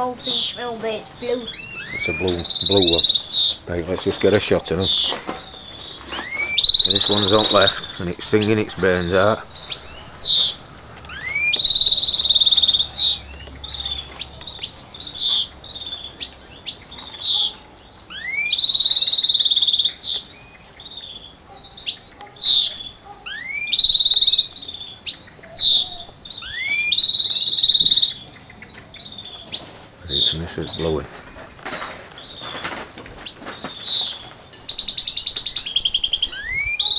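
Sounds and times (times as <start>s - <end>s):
finch singing trills: 0.0s - 36.9s.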